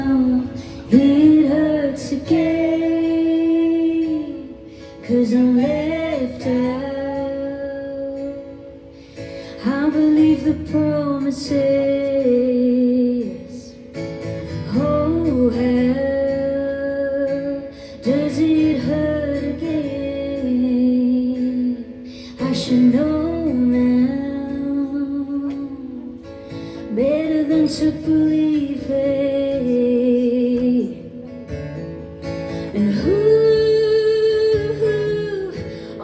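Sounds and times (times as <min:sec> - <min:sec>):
woman singing: 0:00.0 - 0:08.9, 0:09.5 - 0:31.6, 0:32.5 - 0:36.0
guitar: 0:00.0 - 0:36.0.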